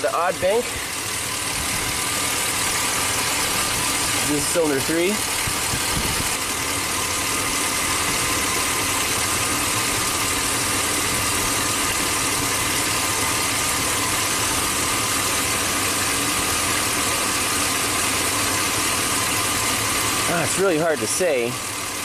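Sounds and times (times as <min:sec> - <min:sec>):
car engine idling rough: 0:00.0 - 0:22.0.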